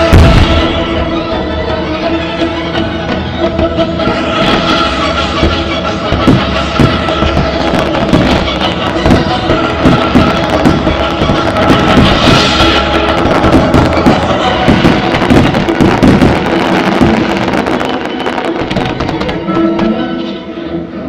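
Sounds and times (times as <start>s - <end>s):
fireworks crackling and banging: 0.0s - 1.8s, 3.4s - 20.2s
loud music: 0.0s - 21.0s.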